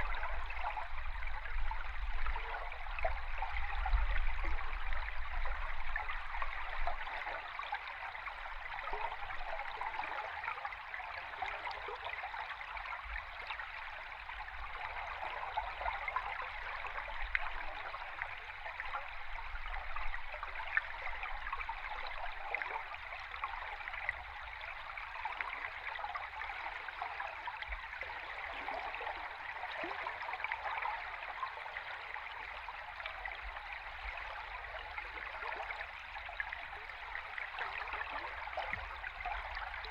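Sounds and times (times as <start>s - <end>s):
river water flowing underwater: 0.0s - 39.9s.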